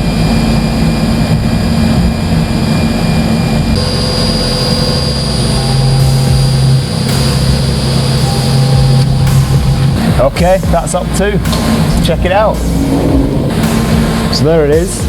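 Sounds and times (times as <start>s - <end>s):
milling machine spindle whine: 0.0s - 14.7s
low machine hum: 0.0s - 15.0s.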